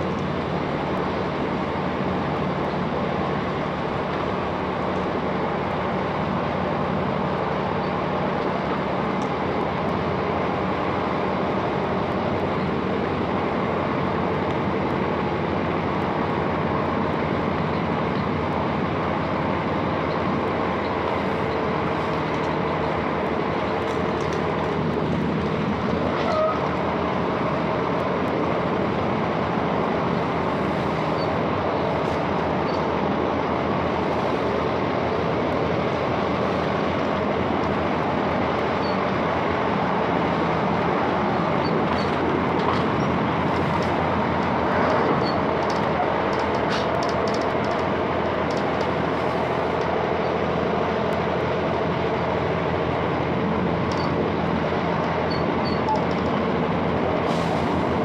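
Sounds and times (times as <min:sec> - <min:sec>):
diesel train rumbling: 0:00.0 - 0:58.0
faint steady engine tones: 0:00.0 - 0:58.0.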